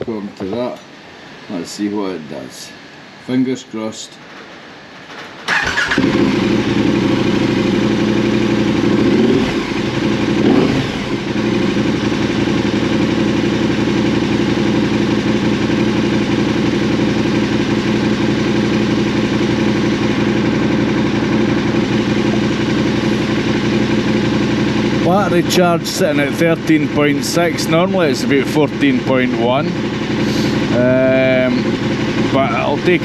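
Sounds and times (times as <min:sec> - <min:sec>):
motorcycle engine starting and idling: 0:05.4 - 0:33.0
engine revving: 0:05.5 - 0:33.0.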